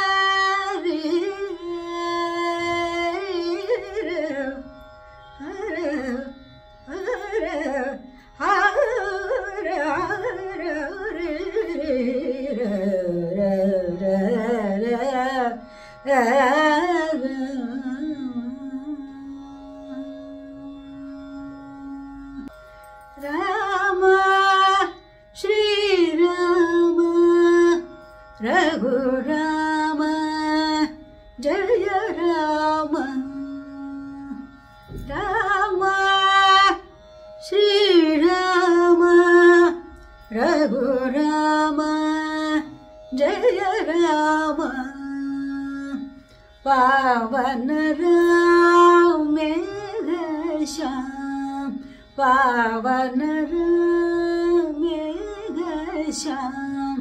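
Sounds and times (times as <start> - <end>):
woman singing: 0.0 - 4.7, 5.4 - 20.1, 23.2 - 57.0.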